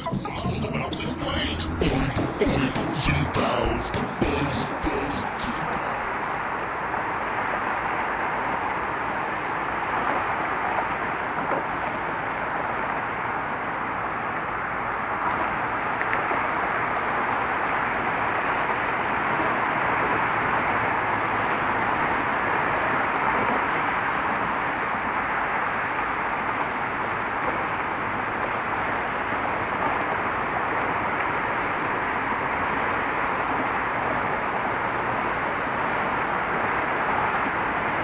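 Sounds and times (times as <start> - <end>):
road traffic rushing: 0.0 - 38.0.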